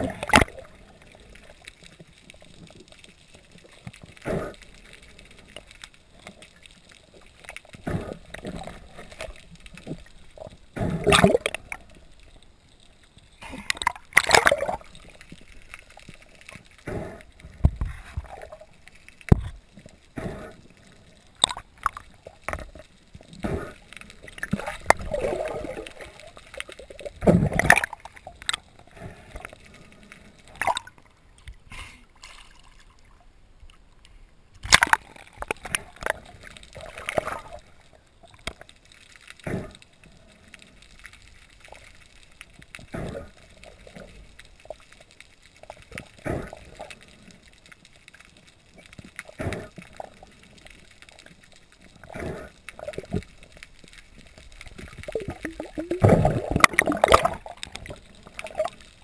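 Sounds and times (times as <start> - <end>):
water sloshing underwater: 0.0 - 59.0.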